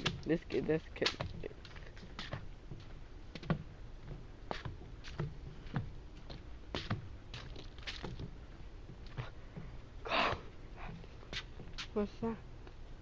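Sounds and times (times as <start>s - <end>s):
footsteps on dirt trail: 0.0s - 12.1s.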